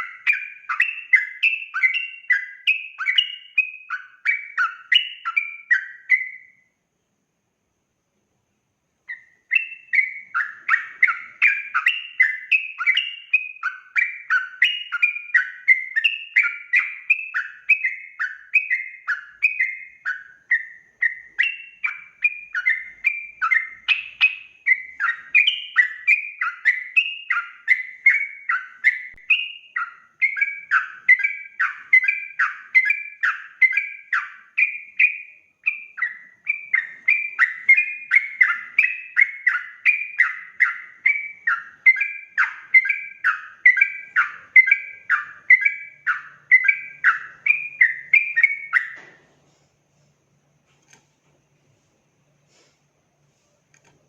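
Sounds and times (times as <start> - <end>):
bulbul singing whistled phrases: 0.0 - 6.8, 9.1 - 49.1.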